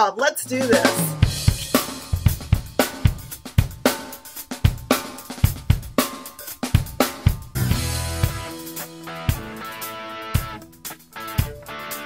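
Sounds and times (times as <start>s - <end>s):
drum kit beat: 0.4s - 12.0s.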